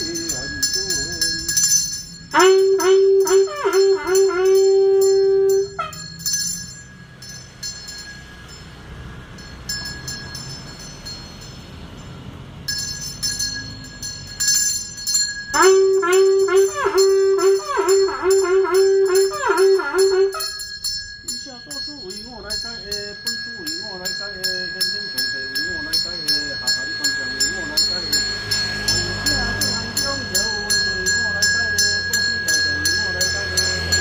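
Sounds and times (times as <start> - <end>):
small hand bell ringing: 0.0 - 34.0.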